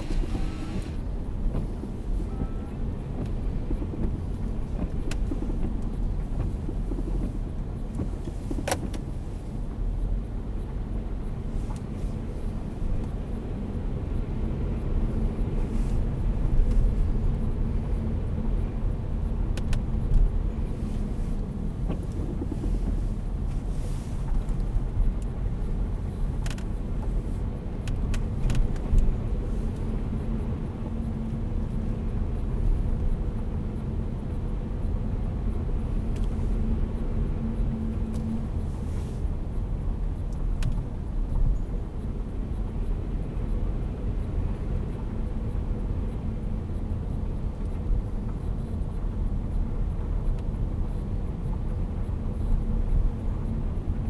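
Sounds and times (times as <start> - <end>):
tyres on wet street: 0.0 - 50.8
car engine rumble from inside cabin: 0.0 - 54.0.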